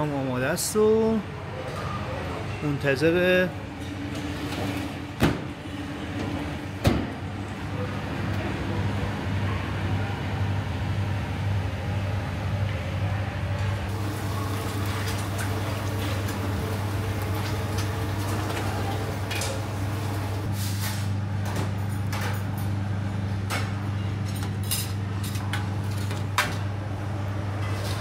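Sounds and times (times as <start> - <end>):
kitchen equipment hum: 3.2 - 28.0.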